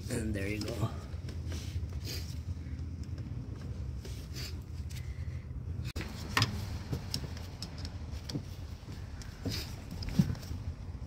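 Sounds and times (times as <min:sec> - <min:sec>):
steady low hum: 0:00.0 - 0:11.0
light clicks and handling noise: 0:00.3 - 0:11.0.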